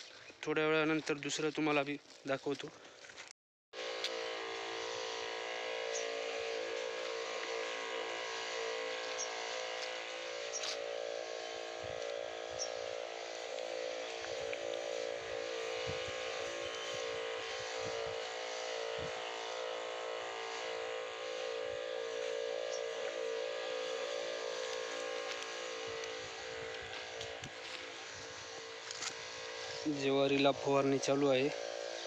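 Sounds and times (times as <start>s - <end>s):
small motor humming: 3.8s - 32.0s.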